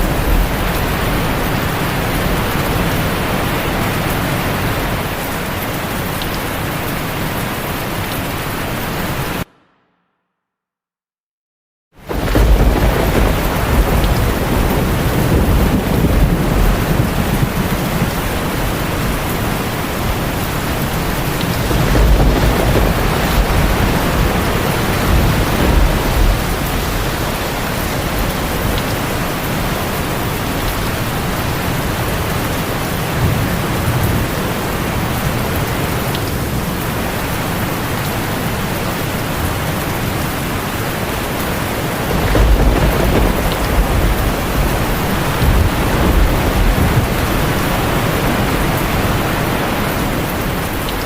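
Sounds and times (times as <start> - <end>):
thunder rumbling: 0.0 - 5.7, 12.0 - 51.0
heavy rain: 0.0 - 9.7, 12.0 - 51.0.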